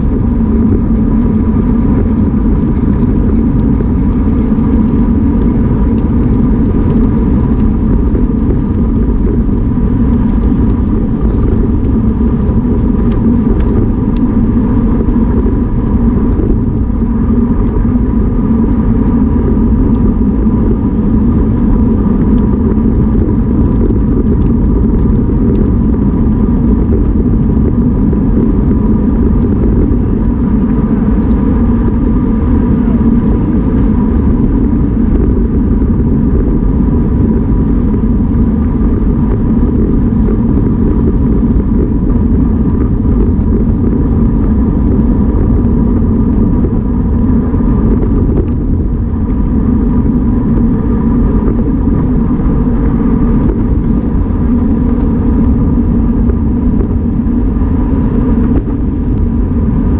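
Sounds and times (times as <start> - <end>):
faint steady whine: 0.0 - 59.9
wind rumbling on microphone: 0.0 - 59.9.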